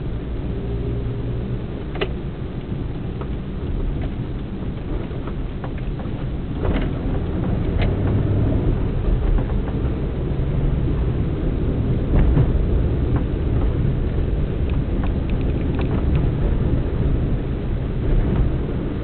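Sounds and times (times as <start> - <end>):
vehicle low rumble: 0.0 - 19.0.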